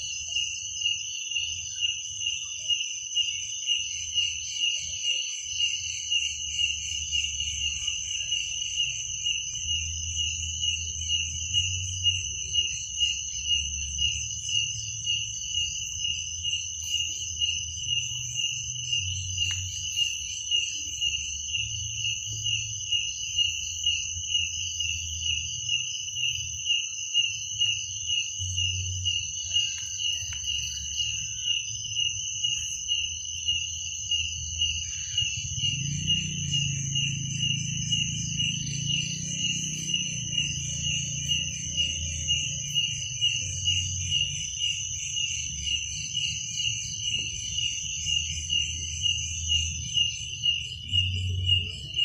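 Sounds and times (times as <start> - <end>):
crickets chirping: 0.0 - 52.0
high insect drone: 0.0 - 52.0.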